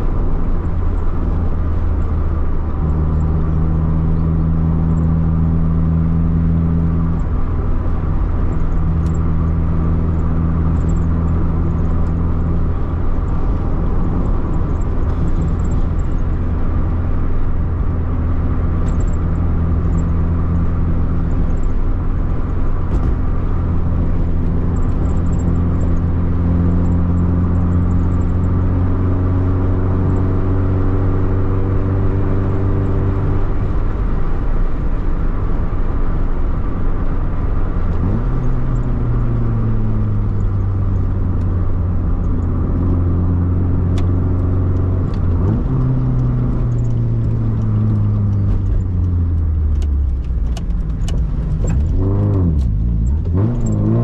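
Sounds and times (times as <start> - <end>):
vehicle engine droning: 0.0 - 54.0.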